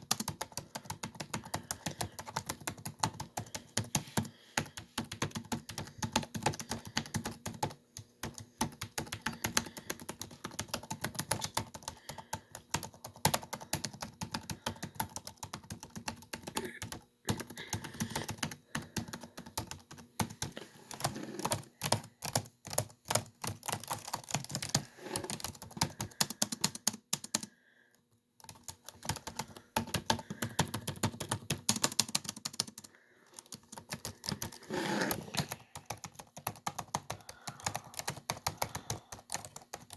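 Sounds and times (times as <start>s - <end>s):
laptop keyboard typing: 0.0s - 27.6s, 28.4s - 39.9s.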